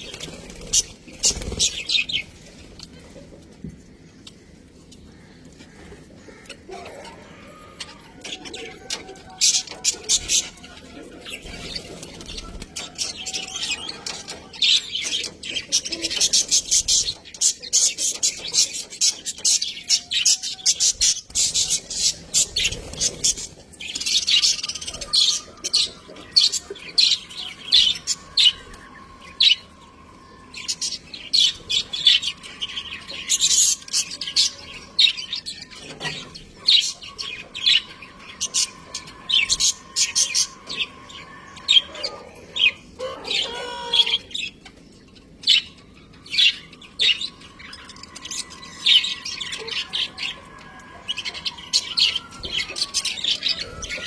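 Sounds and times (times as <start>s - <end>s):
budgerigars chirping and warbling: 0.0s - 54.0s.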